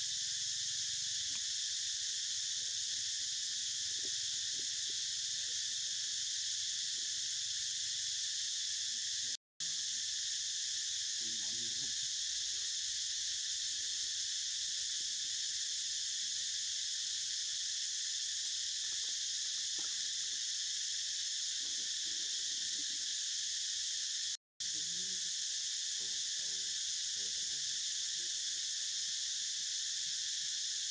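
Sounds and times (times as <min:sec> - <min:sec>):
insects buzzing: 0:00.0 - 0:30.9.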